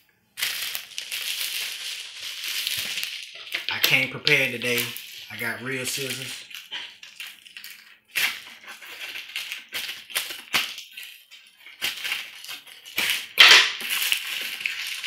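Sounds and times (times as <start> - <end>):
plastic wrapping crinkling: 0.4 - 15.0.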